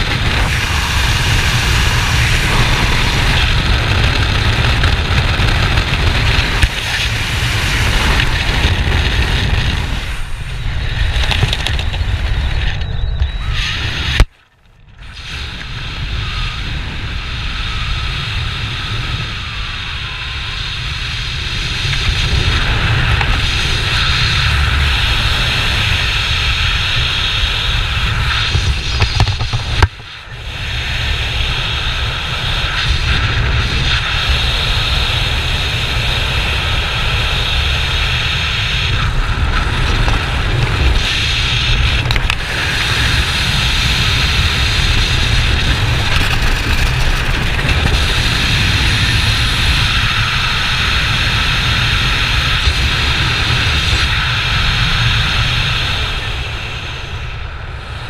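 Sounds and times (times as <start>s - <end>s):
freefall wind rushing: 0.0s - 12.8s, 14.9s - 58.0s.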